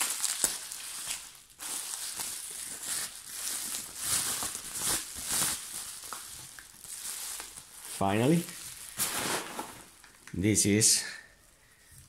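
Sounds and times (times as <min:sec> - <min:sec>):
bubble wrap crinkling: 0:00.0 - 0:10.4.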